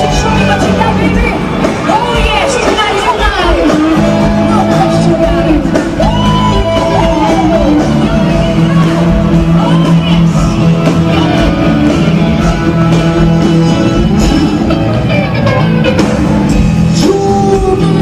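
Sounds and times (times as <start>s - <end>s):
audience shouting: 0.0s - 16.7s
band playing pop-rock song: 0.0s - 18.0s.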